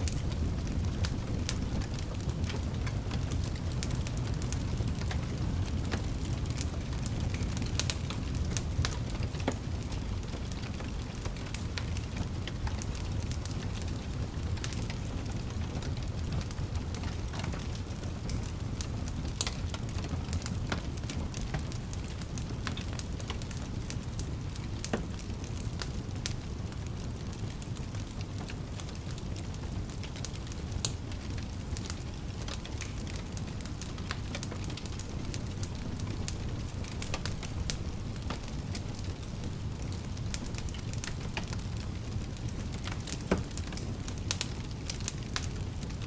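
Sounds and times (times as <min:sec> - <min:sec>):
fire crackling and popping: 0:00.0 - 0:46.0
fire flames rumbling: 0:00.0 - 0:46.0.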